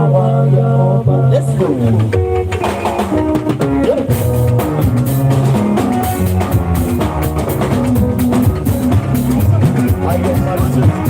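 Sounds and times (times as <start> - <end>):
live band dance music: 1.4 - 11.0.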